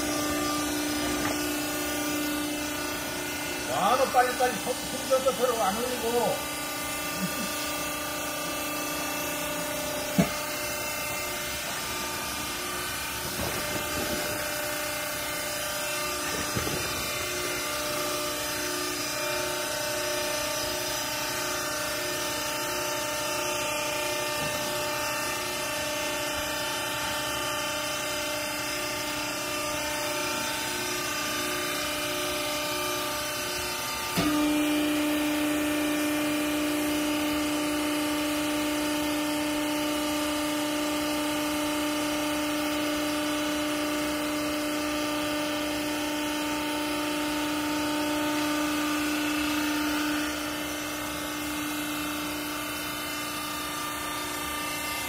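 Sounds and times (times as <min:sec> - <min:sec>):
hydraulic pump motor whine: 0:00.0 - 0:55.0.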